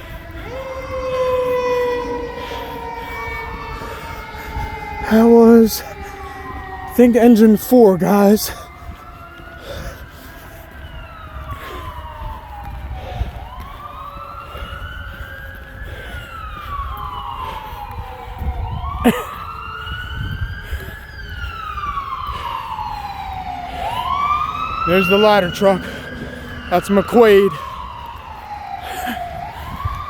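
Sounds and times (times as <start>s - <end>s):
fire truck siren wailing: 0.0s - 30.0s.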